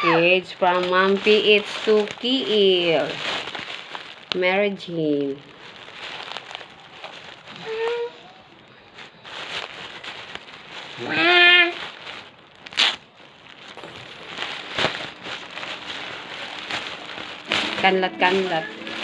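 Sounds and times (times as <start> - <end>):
package tearing and rustling: 0.0 - 19.0.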